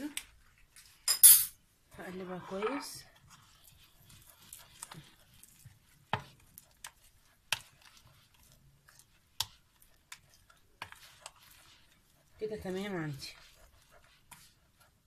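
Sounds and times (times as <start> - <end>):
batter being stirred: 0.0 - 15.0.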